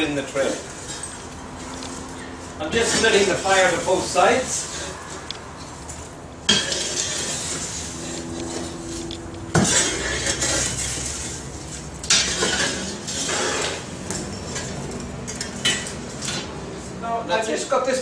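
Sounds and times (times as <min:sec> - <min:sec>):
metal tool scraping embers: 0:00.0 - 0:16.5.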